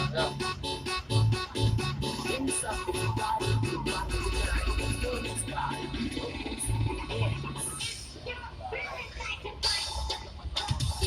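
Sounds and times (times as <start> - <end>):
music with steady bass beat: 0.0 - 8.2, 9.3 - 11.0.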